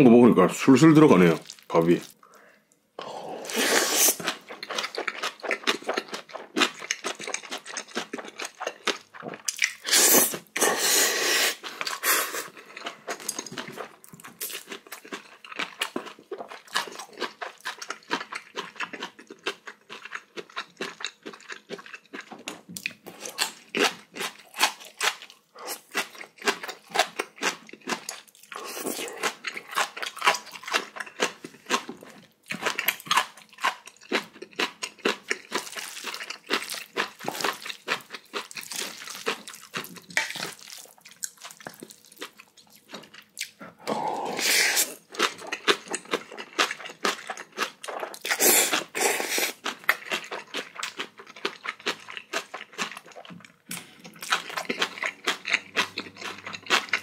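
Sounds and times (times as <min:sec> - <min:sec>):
wet crunchy chewing: 0:01.2 - 0:02.2, 0:11.5 - 0:57.0.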